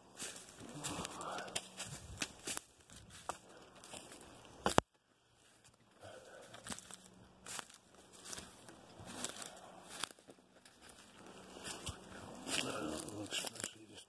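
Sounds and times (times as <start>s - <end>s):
footsteps crunching dry leaves: 0.0s - 4.8s, 5.4s - 14.0s.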